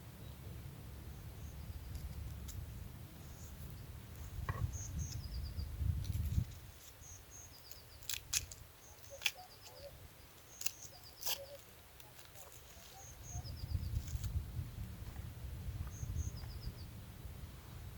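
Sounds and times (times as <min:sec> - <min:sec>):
small birds chirping: 0:00.2 - 0:14.4, 0:15.8 - 0:17.0.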